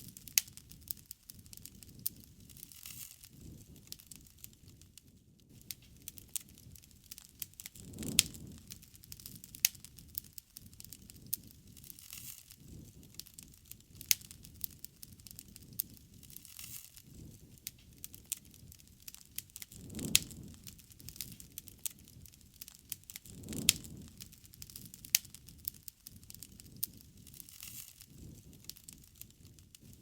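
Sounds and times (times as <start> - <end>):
fire popping and snapping: 0.0 - 30.0
low rumble of flames: 0.0 - 30.0.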